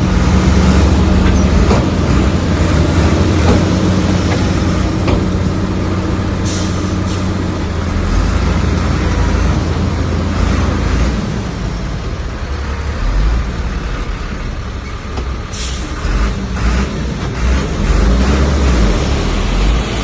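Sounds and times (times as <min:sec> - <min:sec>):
bulldozer diesel engine rumbling: 0:00.0 - 0:20.0.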